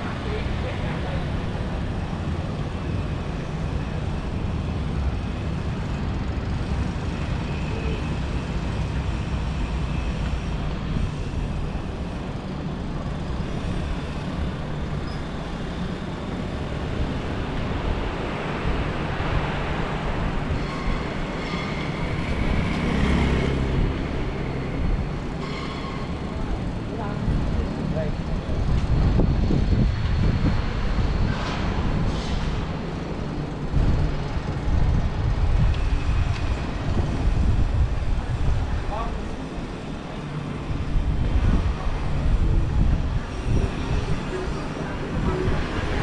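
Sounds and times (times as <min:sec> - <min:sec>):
city street traffic rumble: 0:00.0 - 0:46.0.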